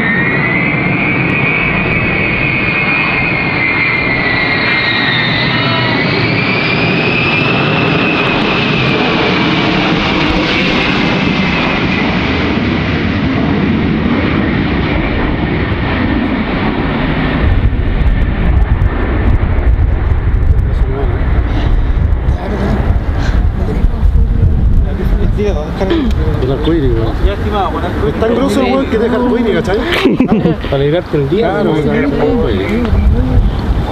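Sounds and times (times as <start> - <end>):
jet plane roaring overhead: 0.0 - 33.9.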